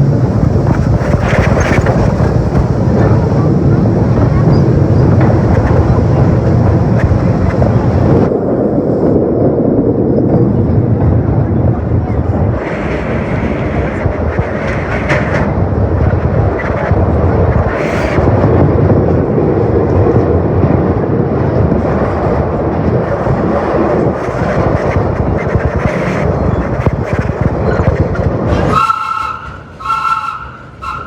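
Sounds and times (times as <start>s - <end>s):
subway train rumbling on track: 0.0s - 31.0s.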